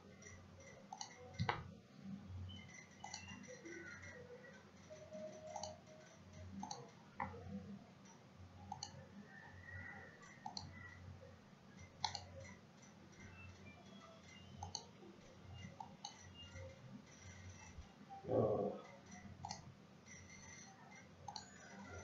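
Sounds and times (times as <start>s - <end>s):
low background hum: 0.0s - 22.0s
computer mouse clicking: 0.1s - 1.7s, 2.5s - 7.5s, 8.1s - 9.0s, 9.7s - 11.0s, 11.8s - 17.8s, 18.8s - 22.0s.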